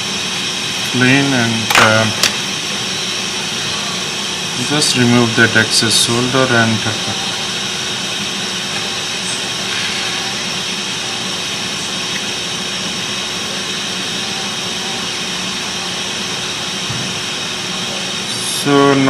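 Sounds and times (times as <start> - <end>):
fan whooshing: 0.0 - 19.0.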